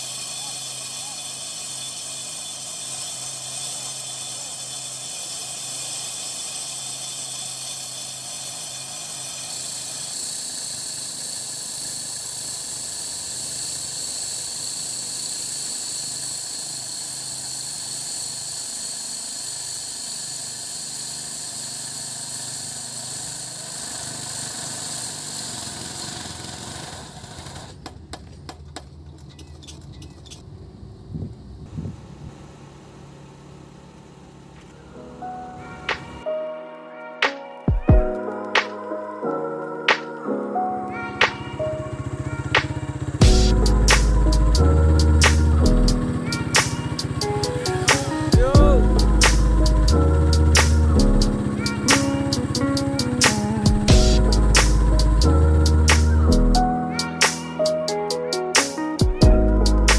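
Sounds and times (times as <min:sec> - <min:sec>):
heavy diesel machinery running: 0:00.0 - 0:36.2, 0:41.1 - 0:56.8, 0:59.2 - 0:59.9.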